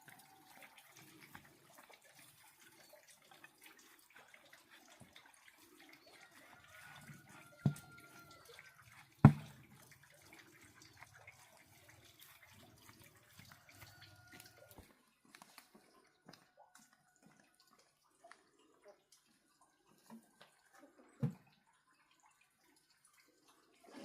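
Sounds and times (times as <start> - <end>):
faint splashing or dripping: 0.0 - 24.0.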